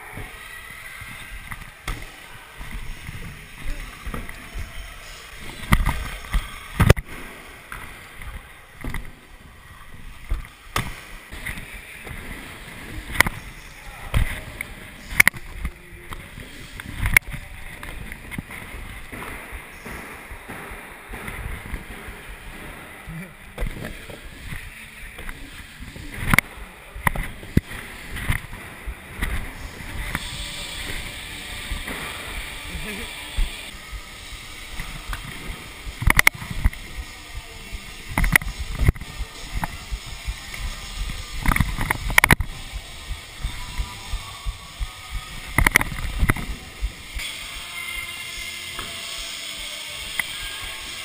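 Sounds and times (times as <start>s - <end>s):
scooter wheels rolling on wooden ramps: 0.0s - 47.2s.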